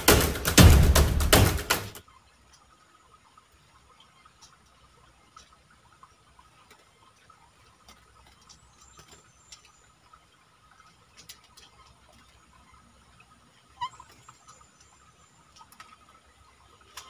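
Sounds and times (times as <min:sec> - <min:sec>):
scattered soft clicks and ticks: 0:02.3 - 0:17.0.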